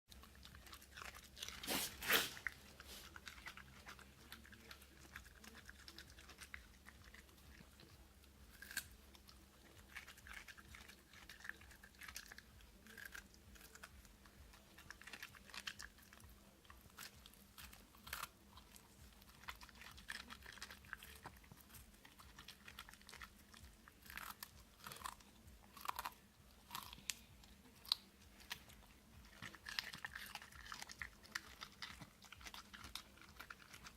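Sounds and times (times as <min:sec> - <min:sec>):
dog chewing cucumber: 0:00.1 - 0:33.9.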